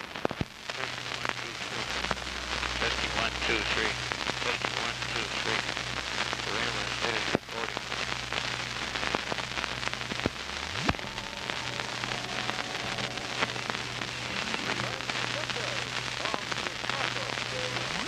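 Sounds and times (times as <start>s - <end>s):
recording surface crackle and hiss: 0.0s - 18.0s
steady low hum: 0.4s - 18.0s.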